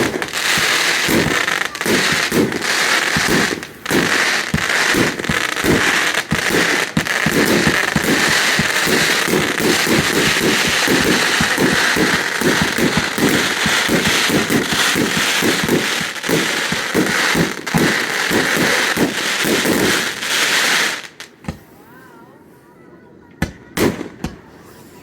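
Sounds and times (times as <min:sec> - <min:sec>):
fireworks bangs and crackling: 0:00.0 - 0:21.8, 0:23.4 - 0:24.8.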